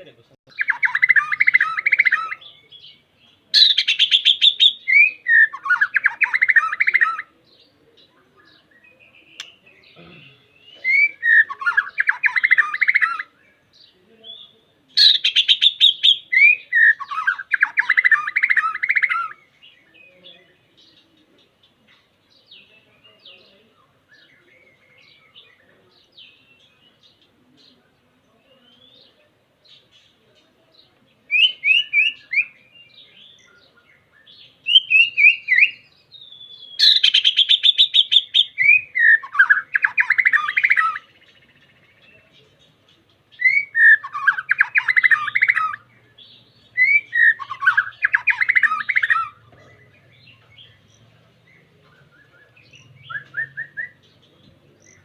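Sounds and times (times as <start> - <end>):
bird singing rapid notes: 0.0 - 27.8, 28.4 - 55.0
faint bird chirps: 0.0 - 55.0.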